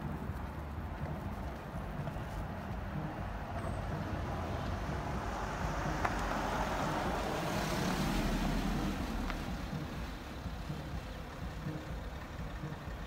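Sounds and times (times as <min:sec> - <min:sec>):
low rumble of traffic: 0:00.0 - 0:13.0
vehicle passing: 0:00.0 - 0:13.0.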